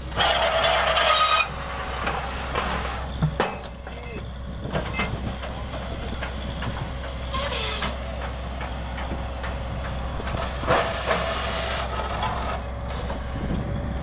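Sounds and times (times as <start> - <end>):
drilling rig engine drone: 0.0 - 14.0.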